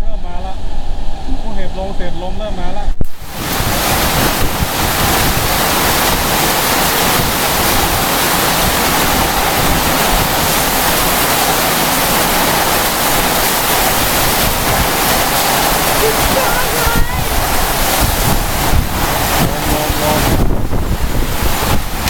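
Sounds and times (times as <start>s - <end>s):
strong wind: 0.0s - 22.0s
wind buffeting microphone: 0.0s - 22.0s
heavy rain: 3.0s - 22.0s.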